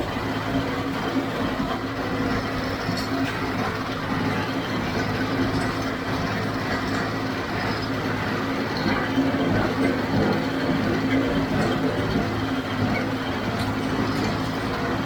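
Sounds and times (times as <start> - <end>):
baler machinery running: 0.0 - 15.0
tractor engine humming: 0.0 - 15.0.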